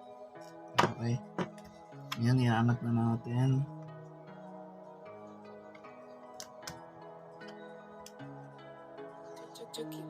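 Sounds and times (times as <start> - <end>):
soft calm background music: 0.0 - 10.0.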